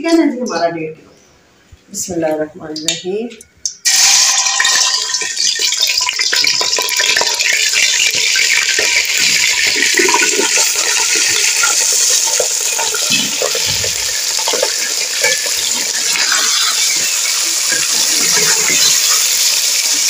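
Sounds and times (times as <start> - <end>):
chicken frying sizzle: 3.8 - 20.0
oil crackles and spatters: 3.8 - 20.0.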